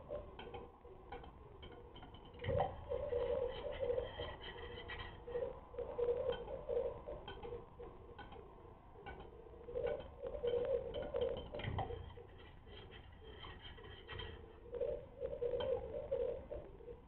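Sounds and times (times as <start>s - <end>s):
grouse dry clicks: 0.0s - 17.0s
grouse low calls: 0.0s - 17.0s.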